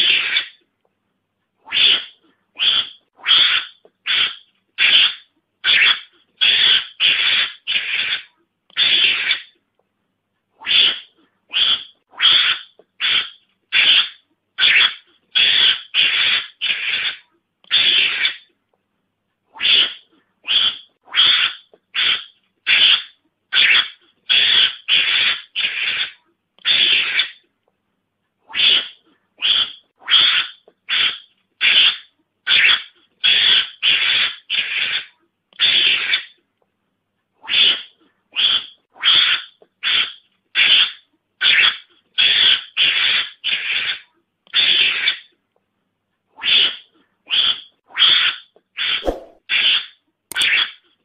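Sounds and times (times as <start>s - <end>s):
mongoose lure call harsh raspy calls: 0.0s - 0.6s, 1.6s - 9.6s, 10.6s - 18.5s, 19.5s - 27.5s, 28.5s - 36.4s, 37.4s - 45.4s, 46.4s - 50.9s.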